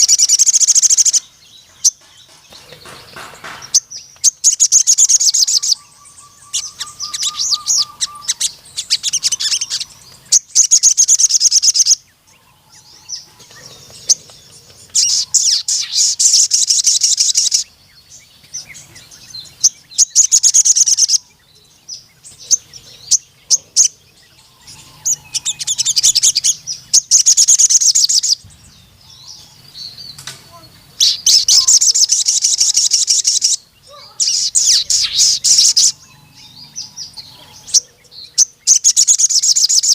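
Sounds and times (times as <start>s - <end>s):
bird trilling: 0.0s - 14.3s, 14.9s - 17.8s, 18.6s - 39.9s
soft bird calls: 0.0s - 39.9s.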